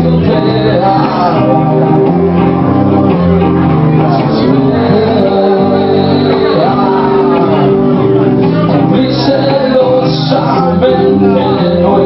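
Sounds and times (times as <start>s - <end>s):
guitar: 0.0s - 12.0s
live band playing loud music: 0.0s - 12.0s.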